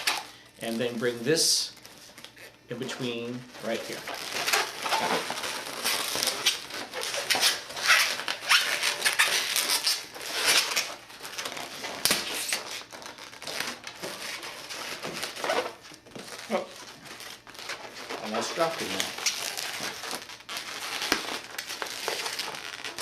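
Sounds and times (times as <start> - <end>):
rubber balloons rubbing: 3.6 - 23.0.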